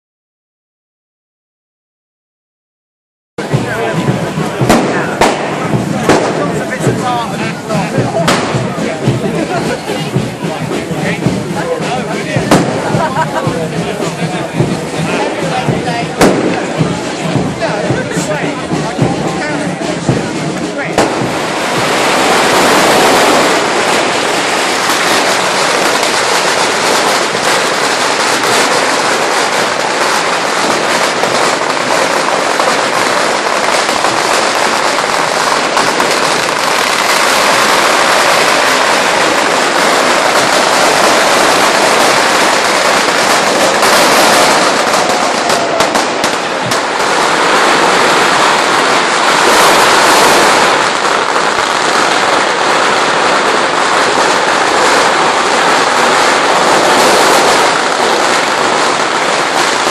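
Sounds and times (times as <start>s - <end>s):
firecrackers rattling: 3.4s - 59.9s.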